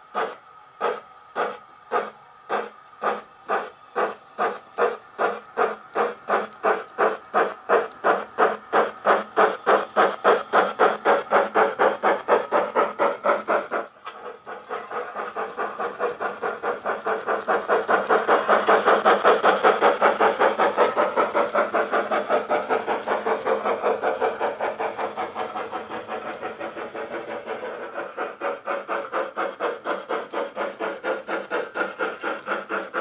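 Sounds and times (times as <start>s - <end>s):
model steam locomotive chuffing: 0.0s - 33.0s.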